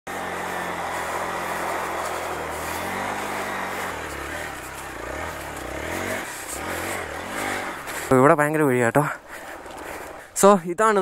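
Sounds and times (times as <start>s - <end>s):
motorcycle engine running: 0.1s - 10.4s
wind and road noise: 0.1s - 11.0s.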